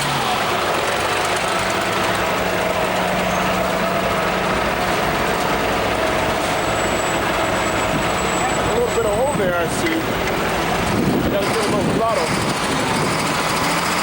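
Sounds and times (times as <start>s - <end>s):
heavy equipment engine running: 0.0s - 14.0s.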